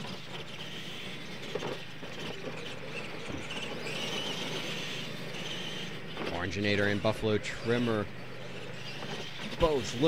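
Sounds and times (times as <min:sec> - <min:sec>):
toy truck motors whining: 0:00.0 - 0:10.0.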